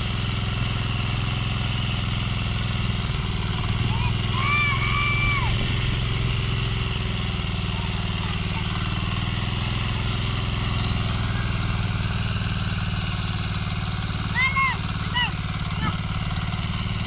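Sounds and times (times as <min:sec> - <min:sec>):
rotary tiller engine throbbing: 0:00.0 - 0:17.0.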